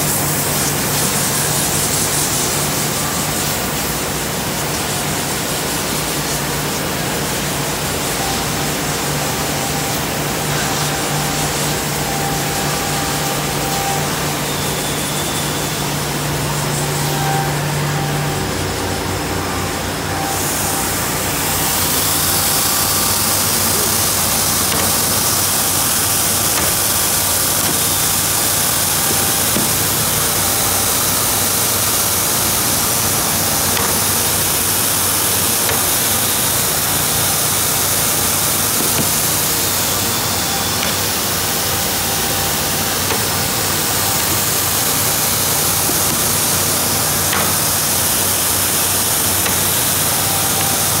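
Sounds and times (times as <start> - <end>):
belt sanding machine running: 0.0 - 51.0.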